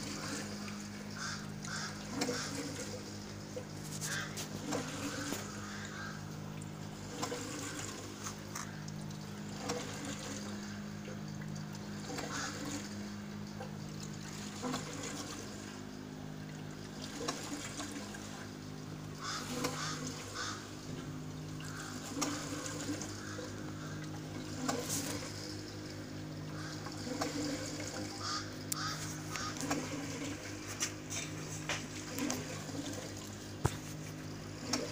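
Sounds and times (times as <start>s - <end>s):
steady low hum: 0.0s - 34.9s
water gurgling and splashing: 0.0s - 34.9s.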